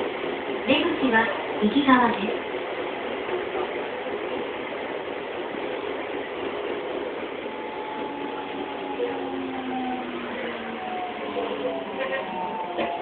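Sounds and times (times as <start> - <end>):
faint steady tones: 0.0 - 13.0
train equipment hum and hiss: 0.0 - 13.0.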